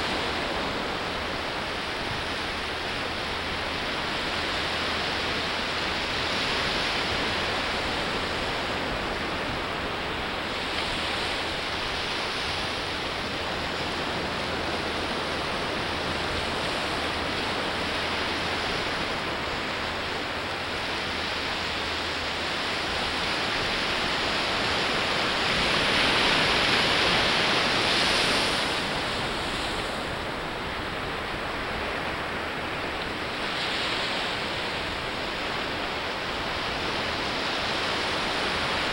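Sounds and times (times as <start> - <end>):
surf washing up sandy beach: 0.0 - 38.9.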